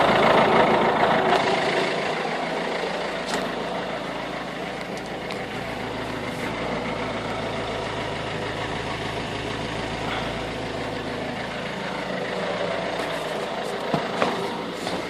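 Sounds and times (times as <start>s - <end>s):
diesel engine idling roughly: 0.0s - 15.0s.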